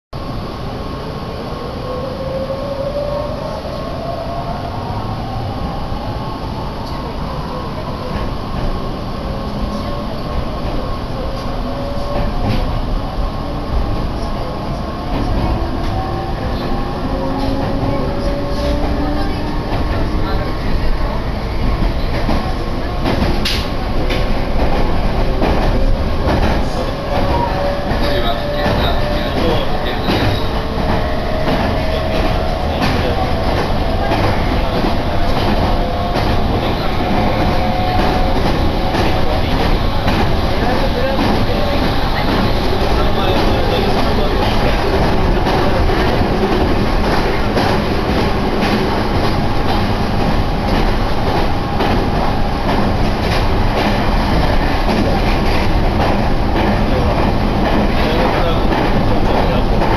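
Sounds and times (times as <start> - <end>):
train running rumble: 0.2 - 59.9
rail joint clicks: 9.5 - 12.8, 13.7 - 59.9.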